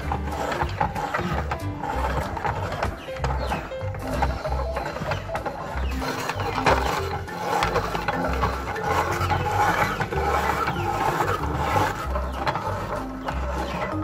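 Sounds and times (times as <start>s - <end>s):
background music with bass line: 0.0s - 14.0s
meat grinder crunching: 0.0s - 14.0s.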